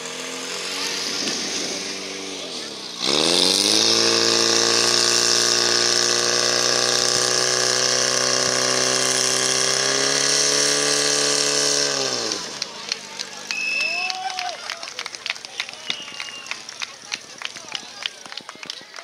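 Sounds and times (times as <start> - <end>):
fire pump engine revving: 0.0 - 18.8.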